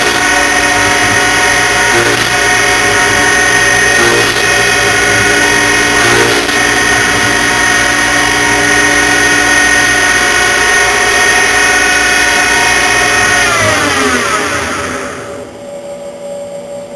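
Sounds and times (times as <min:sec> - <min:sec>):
spindle winding down: 0:00.0 - 0:15.5
lathe spindle whine: 0:00.0 - 0:16.9.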